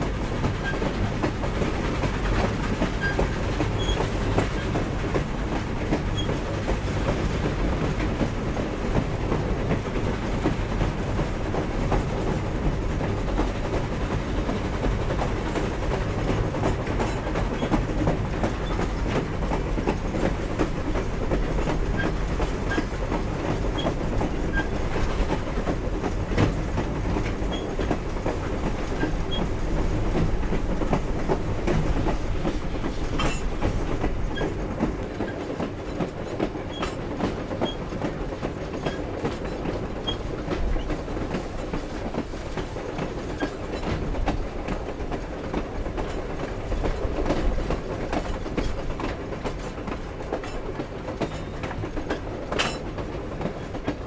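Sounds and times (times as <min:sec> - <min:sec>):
clicks and clanks of train cars: 0:00.0 - 0:54.0
train wheels rumbling on track: 0:00.0 - 0:54.0.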